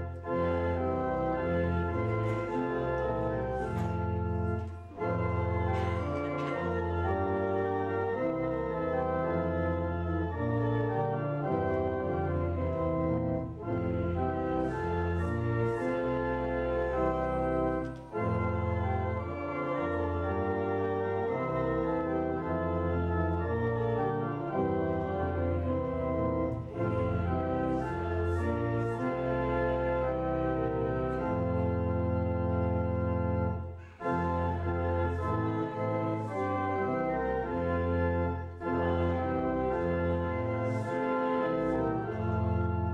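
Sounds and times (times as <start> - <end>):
organ playing a hymn: 0.0 - 42.9.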